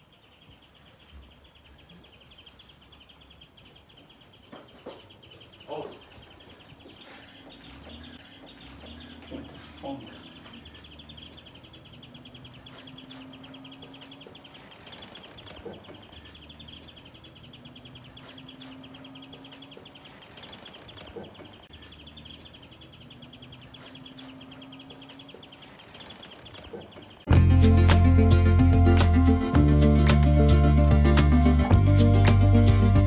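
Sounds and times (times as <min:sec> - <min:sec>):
bird giving rapid high chirps: 0:00.0 - 0:33.0.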